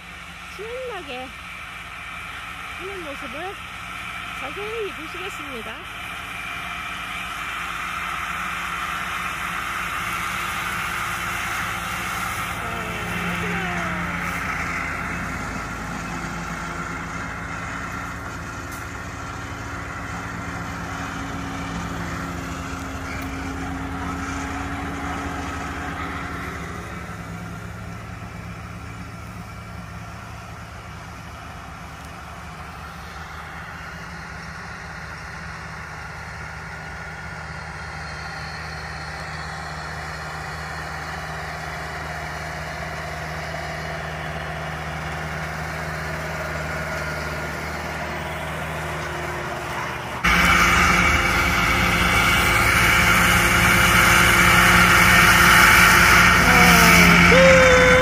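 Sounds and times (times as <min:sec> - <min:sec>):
mower whine: 0:00.0 - 0:58.0
tractor diesel engine running: 0:00.0 - 0:58.0.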